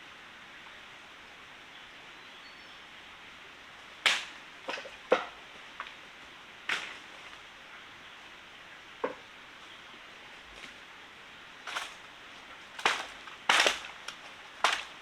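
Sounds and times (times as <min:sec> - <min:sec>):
forest stream rushing: 0:00.0 - 0:15.0.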